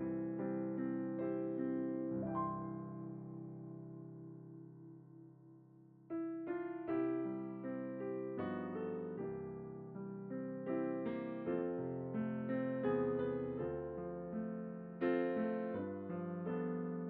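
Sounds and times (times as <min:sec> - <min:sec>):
piano music: 0:00.0 - 0:05.4, 0:06.0 - 0:17.0.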